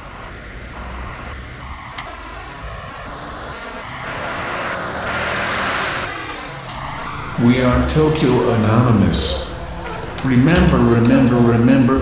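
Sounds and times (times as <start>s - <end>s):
hissing swell: 0.0s - 11.7s
bus engine humming: 0.0s - 12.0s
street traffic: 0.0s - 12.0s.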